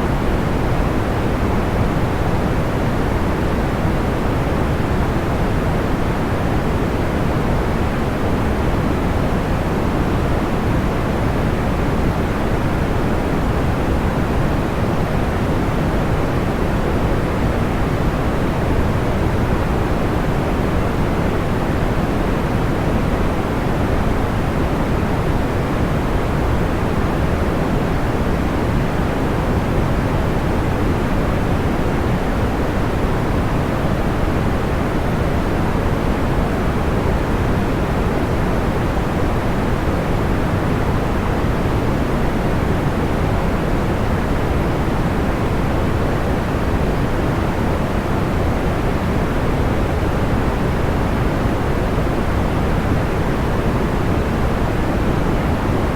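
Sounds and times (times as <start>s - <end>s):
soft white noise: 0.0s - 55.9s.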